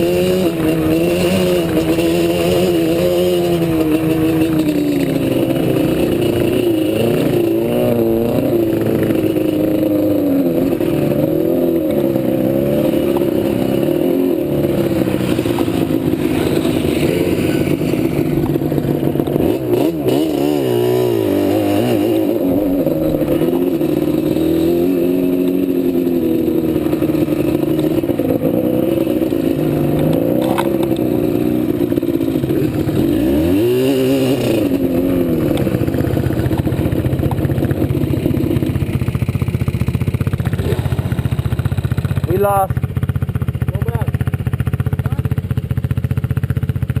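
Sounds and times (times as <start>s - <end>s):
quad engine revving: 0.0s - 47.0s.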